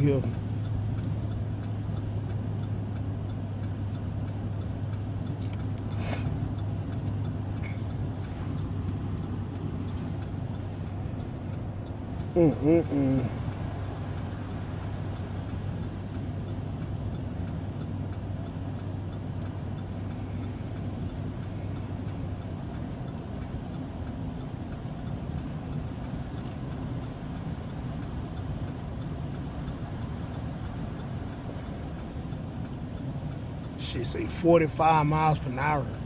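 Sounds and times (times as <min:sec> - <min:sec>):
faint regular ticking: 0:00.0 - 0:36.0
truck engine and road noise: 0:00.0 - 0:36.0.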